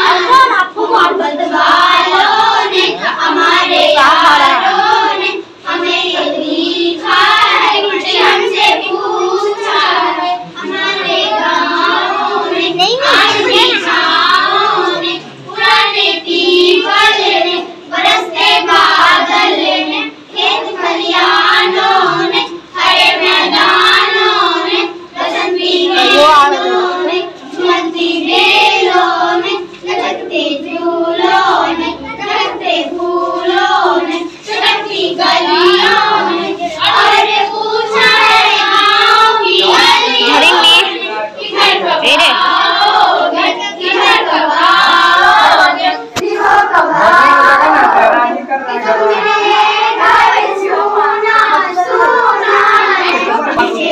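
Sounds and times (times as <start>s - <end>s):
girls singing together: 0.0s - 53.9s.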